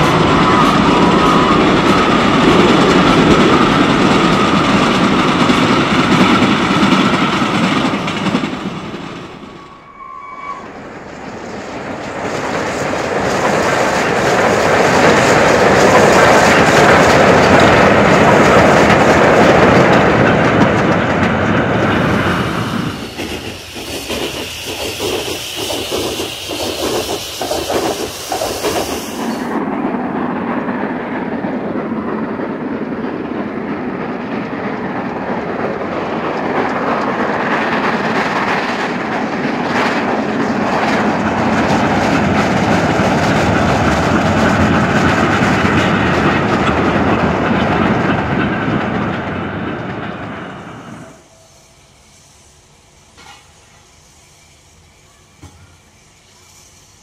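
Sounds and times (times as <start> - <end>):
train wheels clattering on rail joints: 0.0 - 9.8, 10.6 - 51.0, 53.1 - 53.9.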